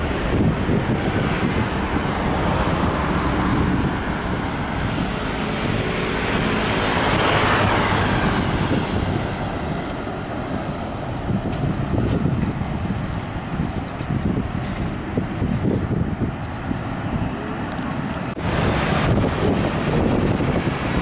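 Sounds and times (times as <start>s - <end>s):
jet airliner taking off: 0.0s - 13.6s, 14.4s - 21.0s
wind rumble on microphone: 0.0s - 21.0s.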